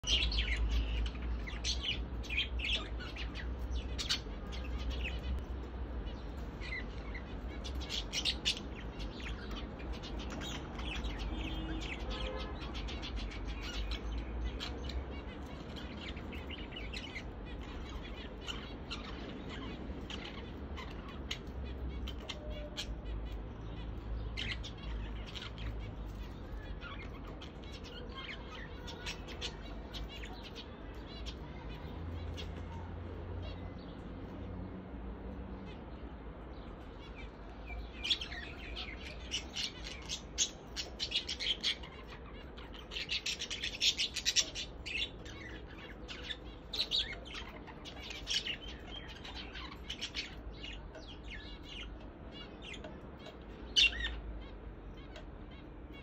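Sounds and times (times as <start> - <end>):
budgerigars chirping: 6.1 - 32.8, 37.0 - 56.0.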